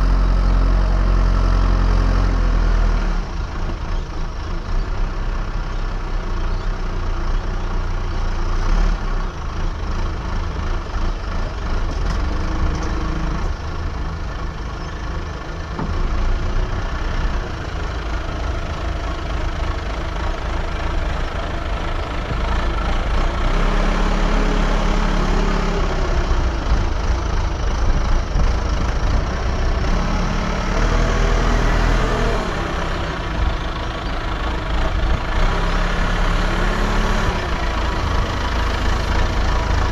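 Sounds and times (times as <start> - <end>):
diesel engine of heavy machinery: 0.0 - 39.9.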